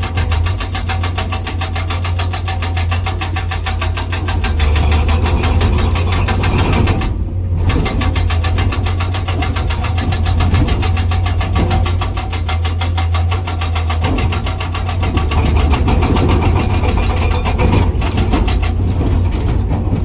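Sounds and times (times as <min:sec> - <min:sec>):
diesel engine droning: 0:00.0 - 0:20.0
hydraulic breaker hammering rock: 0:00.0 - 0:20.0.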